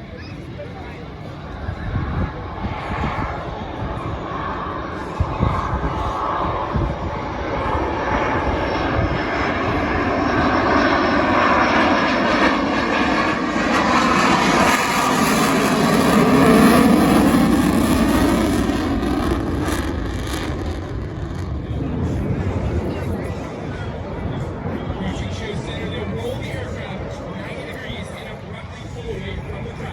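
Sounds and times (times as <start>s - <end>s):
airplane engine passing overhead: 0.0s - 29.9s.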